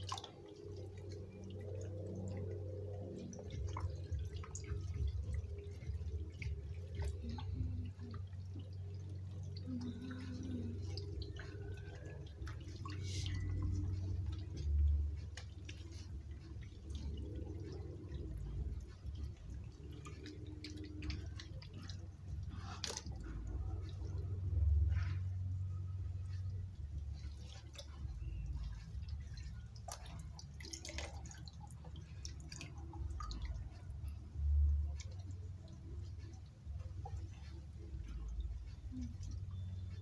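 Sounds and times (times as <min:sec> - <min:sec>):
low steady hum: 0:00.0 - 0:40.0
water splashing and dripping: 0:00.0 - 0:40.0.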